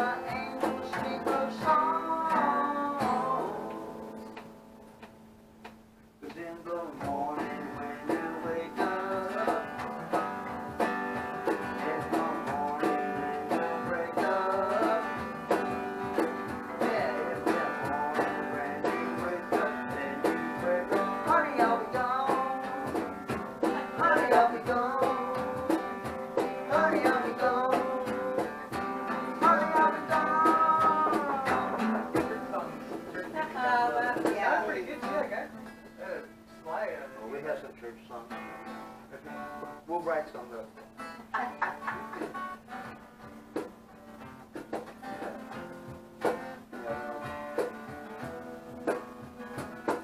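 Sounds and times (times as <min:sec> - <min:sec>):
band playing acoustic guitars: 0:00.0 - 0:50.0.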